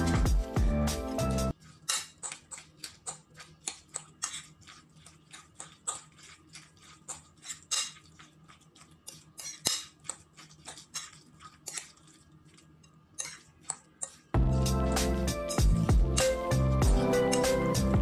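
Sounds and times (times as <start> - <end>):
spoon scraping glass bowl: 1.0 - 18.0.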